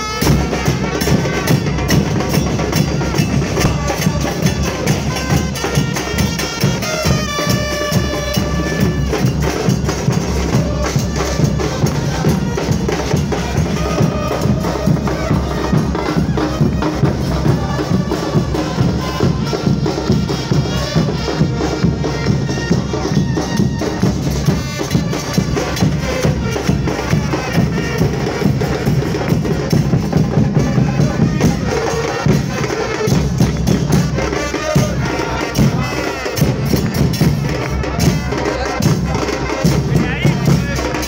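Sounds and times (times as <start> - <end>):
crowd voices: 0.0 - 41.0
street band drums and brass: 0.0 - 41.0.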